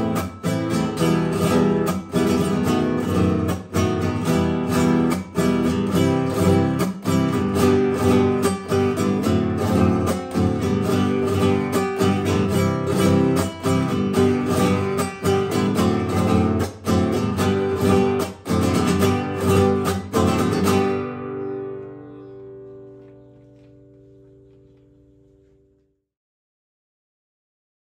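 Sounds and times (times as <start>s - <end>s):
classical guitar strummed chords: 0.0s - 25.9s.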